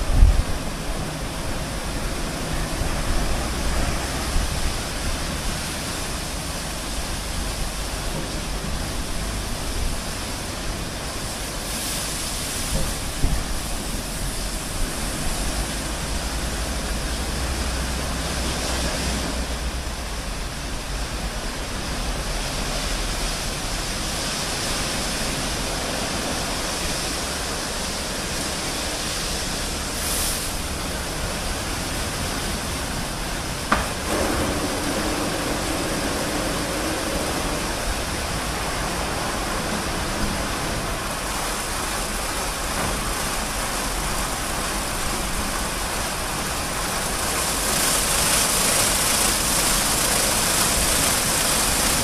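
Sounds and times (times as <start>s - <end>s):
car wash water spray and machinery: 0.0s - 52.0s.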